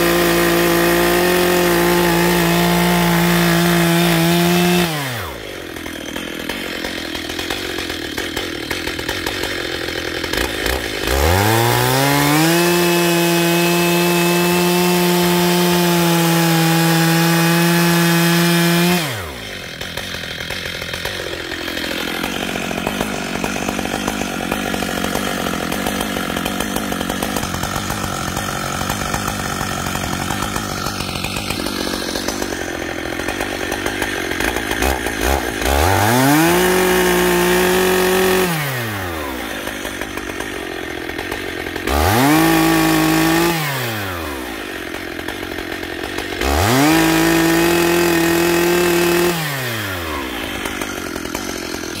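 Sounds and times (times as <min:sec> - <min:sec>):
chainsaw revving and cutting: 0:00.0 - 0:52.0.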